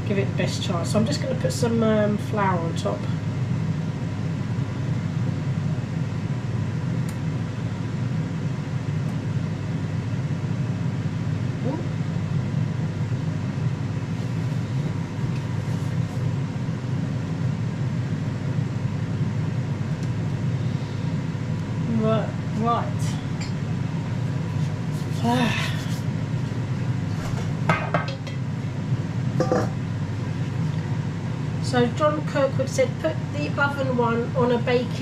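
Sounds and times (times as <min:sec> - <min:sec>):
air fryer fan humming: 0:00.0 - 0:35.0.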